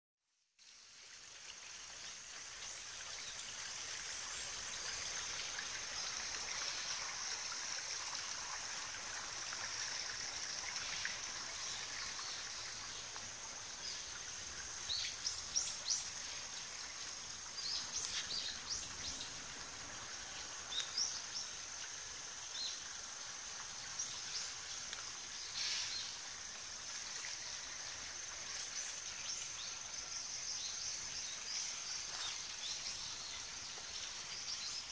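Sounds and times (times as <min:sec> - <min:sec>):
stream running over stones: 0:00.6 - 0:34.9.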